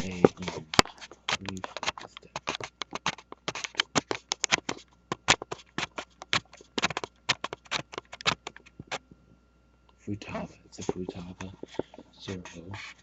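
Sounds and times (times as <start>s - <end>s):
rapid clicking and tapping: 0.0s - 9.0s, 10.8s - 13.0s.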